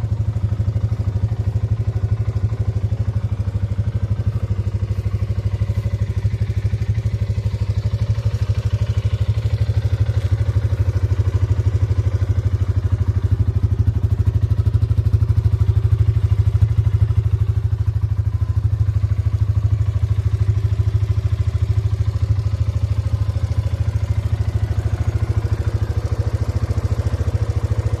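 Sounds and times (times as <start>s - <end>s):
quad bike engine running: 0.0s - 28.0s.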